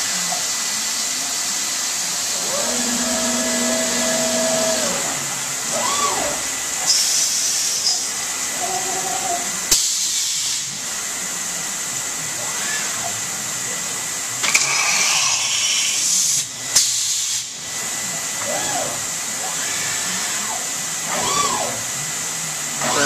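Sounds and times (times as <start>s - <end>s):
stone router spindle hiss and whine: 0.0s - 23.0s.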